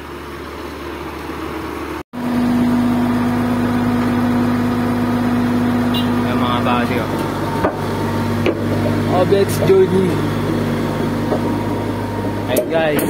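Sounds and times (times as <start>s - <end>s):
bulldozer diesel engine running: 0.0s - 13.0s
heavy machinery idling: 0.0s - 13.0s.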